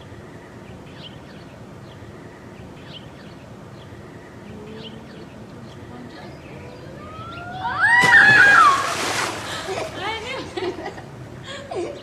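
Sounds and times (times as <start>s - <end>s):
low outdoor rumble: 0.0s - 11.9s.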